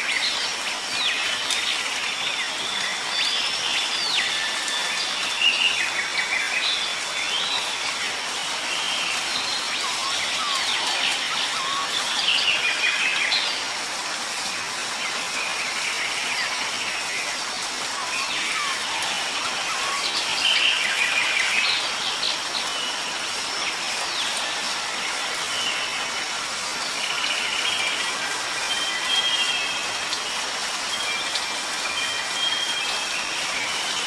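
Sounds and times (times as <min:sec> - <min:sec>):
birds singing and chirping: 0:00.0 - 0:34.0
nature ambience hiss: 0:00.0 - 0:34.0.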